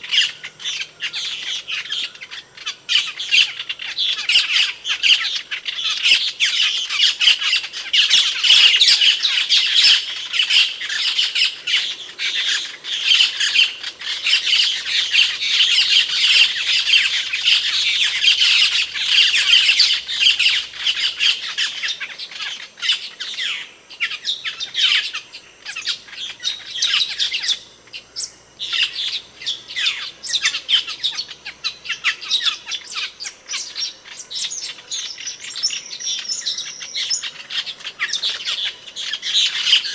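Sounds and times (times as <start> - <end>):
starling squawks and chirps: 0.0 - 39.9.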